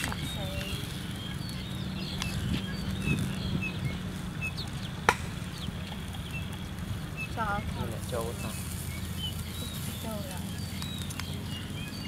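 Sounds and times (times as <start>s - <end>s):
high bird chirps: 0.0s - 12.0s.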